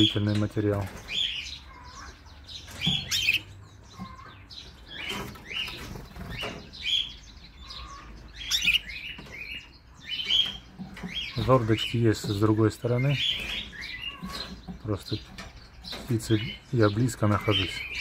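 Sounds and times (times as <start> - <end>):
canaries chirping: 0.0 - 18.0.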